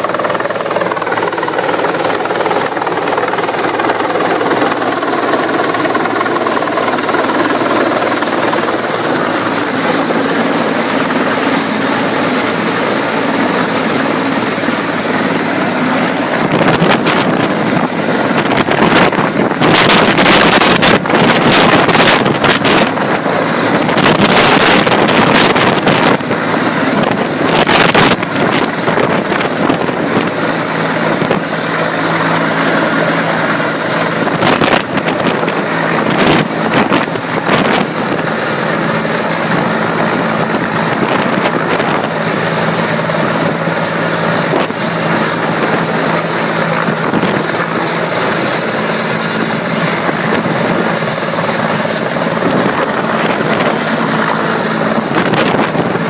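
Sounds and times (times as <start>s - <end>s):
helicopter roar: 0.0s - 56.0s
high turbine whine: 0.0s - 56.0s.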